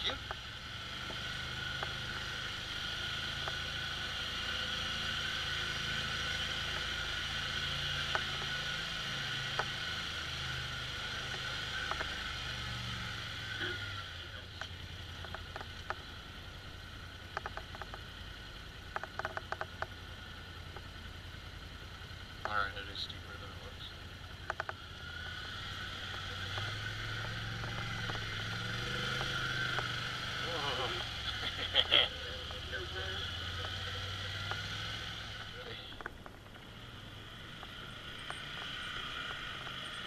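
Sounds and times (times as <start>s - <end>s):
atv engine running: 0.0s - 40.0s.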